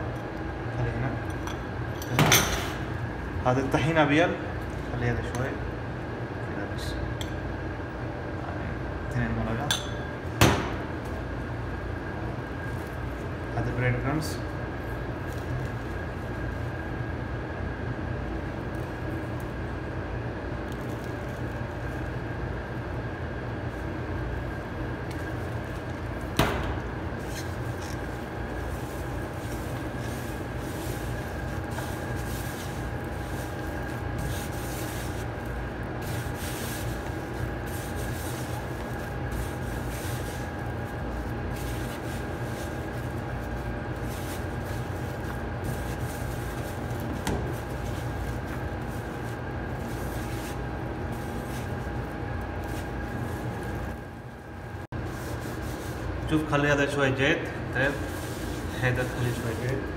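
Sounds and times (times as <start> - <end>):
mechanical hum with high tone: 0.0 - 59.9.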